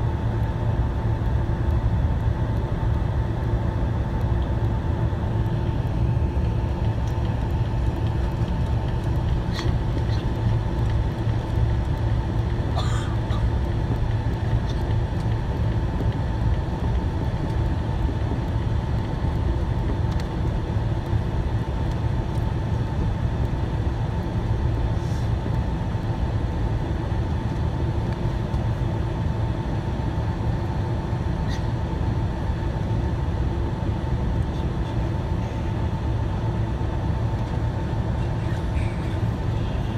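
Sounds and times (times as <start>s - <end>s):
engine rumble in airliner cabin: 0.0s - 39.9s
steady hum: 0.0s - 39.9s.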